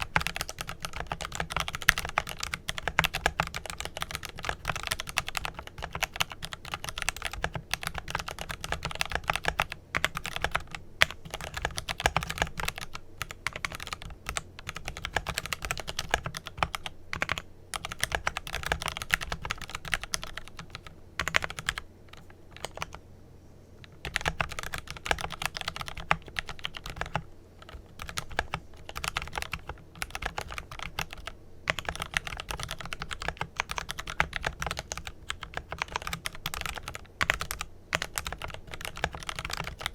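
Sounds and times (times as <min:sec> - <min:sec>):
mechanical keyboard typing: 0:00.0 - 0:23.0, 0:23.8 - 0:39.9.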